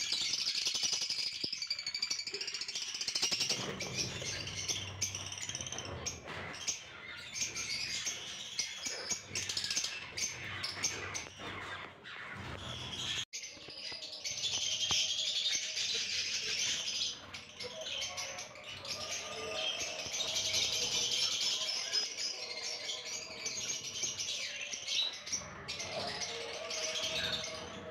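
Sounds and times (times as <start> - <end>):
lovebirds chirping and squeaking: 0.0 - 27.9.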